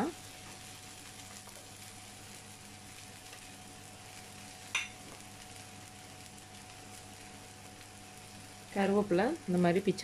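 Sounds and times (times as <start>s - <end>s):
faint steady hum: 0.0s - 10.0s
vegetables sizzling in oil: 0.0s - 10.0s.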